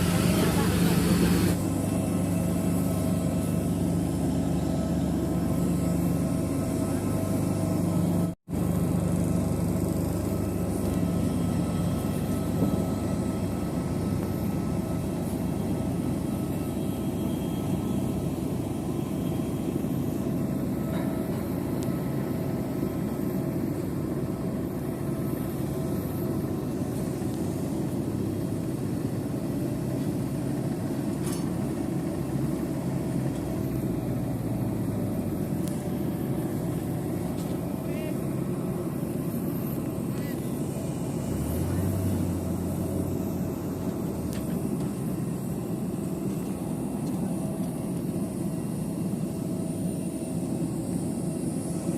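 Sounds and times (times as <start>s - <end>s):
aircraft engines humming: 0.0s - 51.9s
faint steady tones: 0.0s - 51.9s.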